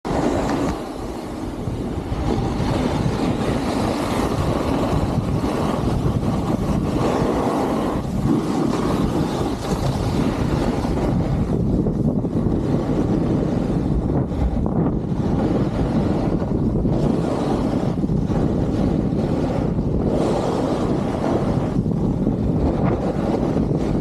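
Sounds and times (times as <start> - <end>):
wind rushing over microphone: 0.0 - 24.0
snowboard scraping on snow: 0.1 - 24.0.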